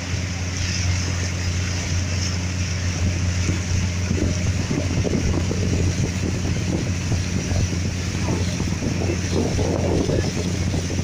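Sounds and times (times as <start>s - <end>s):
boat engine droning: 0.0s - 11.0s
water rushing past hull: 0.0s - 11.0s
wind on microphone: 0.0s - 11.0s.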